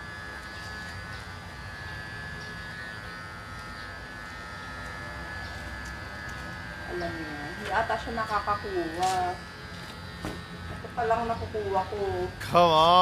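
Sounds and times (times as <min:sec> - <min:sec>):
electric clipper buzzing: 0:00.0 - 0:13.0.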